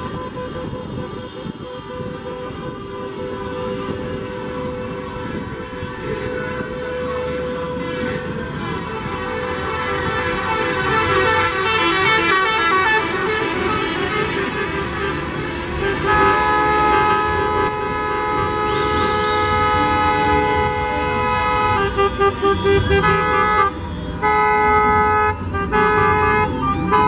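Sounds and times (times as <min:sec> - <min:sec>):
car horns honking: 0:00.0 - 0:27.0
traffic noise: 0:00.0 - 0:27.0.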